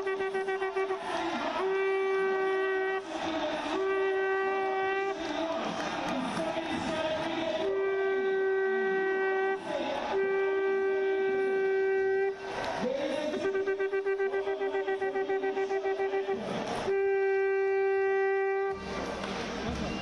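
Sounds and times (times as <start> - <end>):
conch shell blowing: 0.0 - 5.6, 7.3 - 12.6, 13.3 - 19.0.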